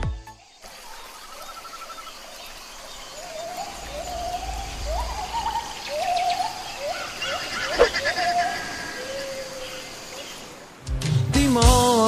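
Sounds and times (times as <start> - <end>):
bird calling: 0.5 - 10.8.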